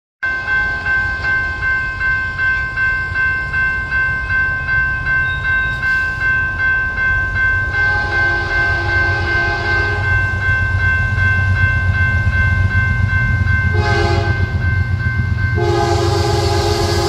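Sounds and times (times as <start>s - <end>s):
railroad crossing bell ringing: 0.2s - 17.0s.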